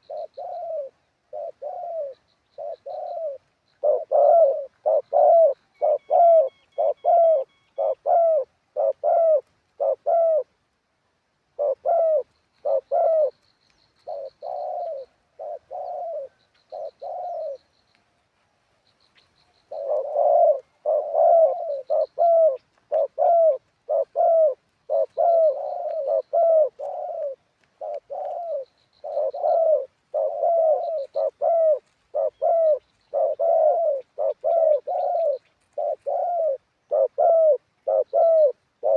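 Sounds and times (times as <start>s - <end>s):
faint high bird chirps: 0.0s - 9.0s, 11.7s - 24.2s, 24.9s - 38.9s
dove cooing: 0.0s - 10.7s, 11.5s - 17.8s, 18.9s - 38.9s.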